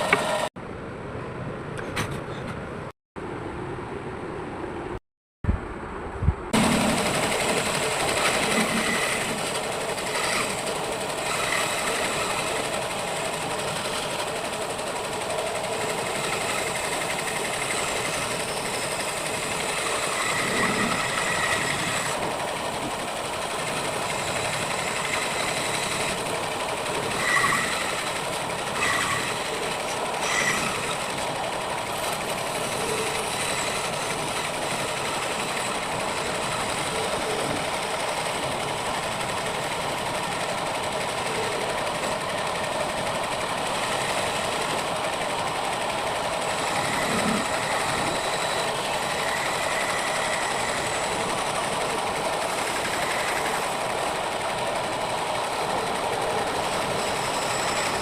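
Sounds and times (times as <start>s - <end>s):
power tool running: 6.6s - 58.0s.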